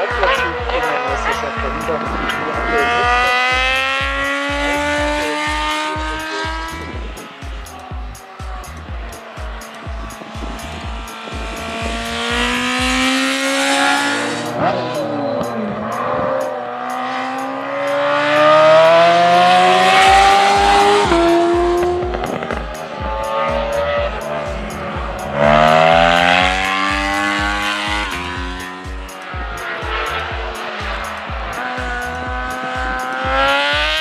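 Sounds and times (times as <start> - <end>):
music with steady beat: 0.0 - 34.0
racing engines accelerating: 0.0 - 34.0.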